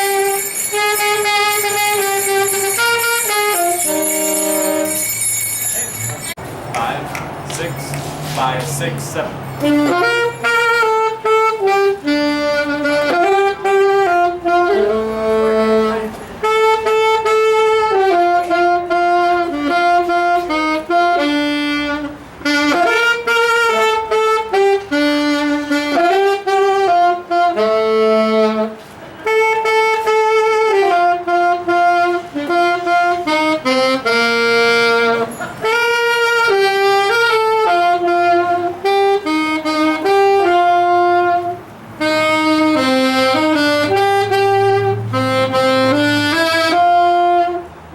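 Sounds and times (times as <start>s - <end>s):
saxophone-led wind ensemble: 0.0s - 6.4s, 8.4s - 47.9s.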